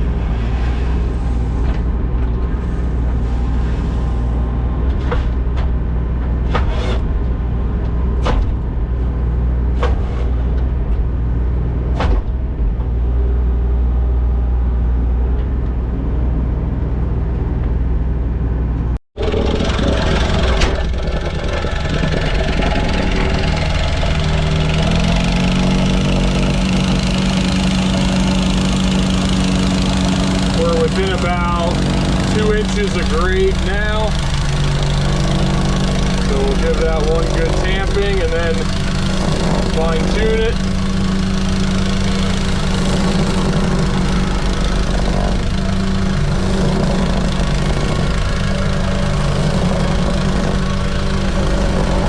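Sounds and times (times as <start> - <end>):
construction machine engine running: 0.0 - 52.0
engine speeding up: 10.2 - 52.0.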